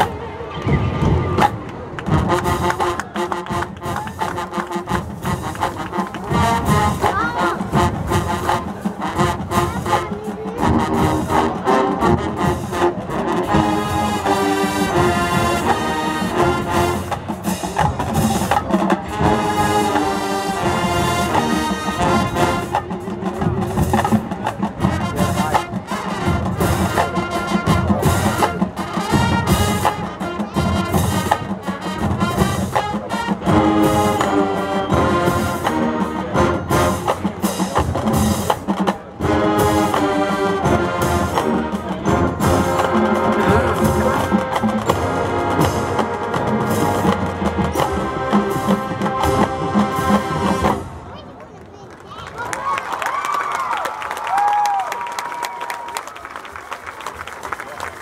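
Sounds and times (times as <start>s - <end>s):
brass instruments: 0.0s - 51.2s
marching band playing: 0.0s - 51.4s
drumline and bass drums: 0.0s - 58.0s.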